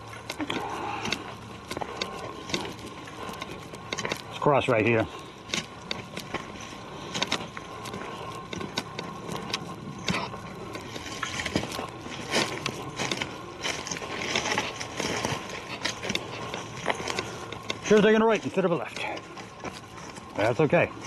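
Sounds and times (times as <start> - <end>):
footsteps through undergrowth: 0.0 - 21.0.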